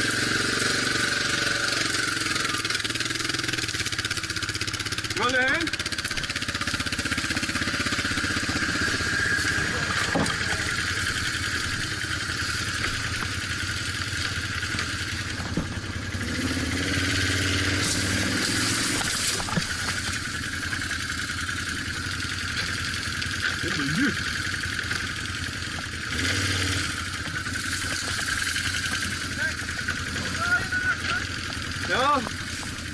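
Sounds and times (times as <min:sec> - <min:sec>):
vehicle engine running: 0:00.0 - 0:32.9.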